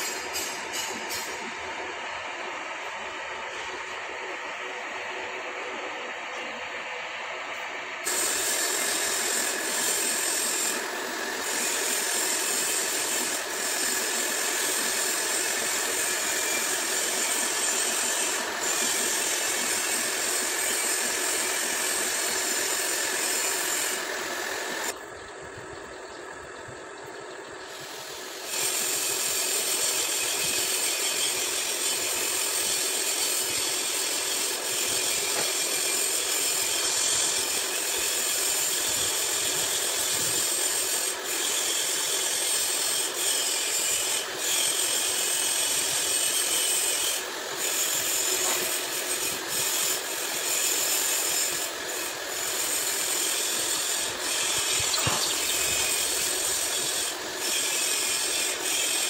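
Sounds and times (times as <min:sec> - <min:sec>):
lathe tool scraping hiss: 0:00.0 - 0:25.0, 0:27.6 - 0:59.0.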